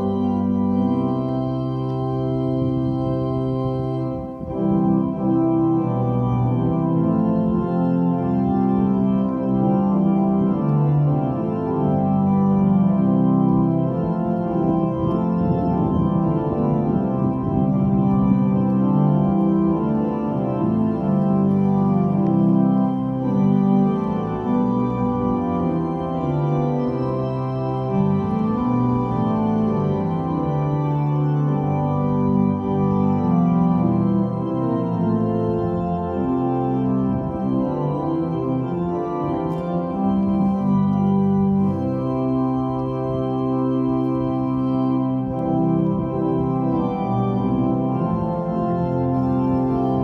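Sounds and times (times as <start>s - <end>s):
organ playing chords: 0.0s - 50.0s.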